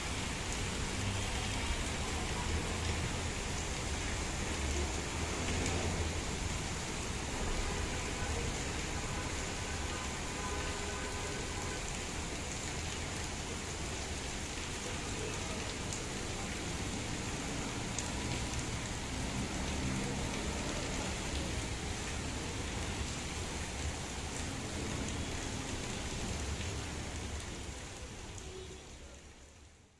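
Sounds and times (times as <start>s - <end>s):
heavy rain on puddles: 0.0s - 29.9s.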